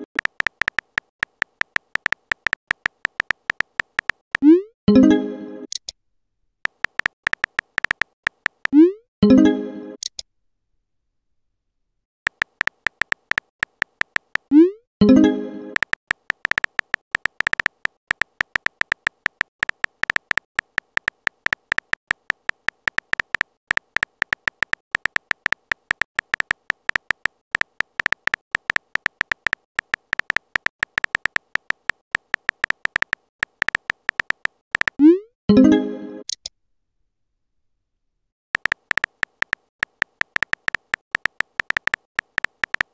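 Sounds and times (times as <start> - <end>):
electronic keyboard clicks: 0.0 - 4.6, 6.6 - 8.9, 12.3 - 36.5, 38.6 - 42.9.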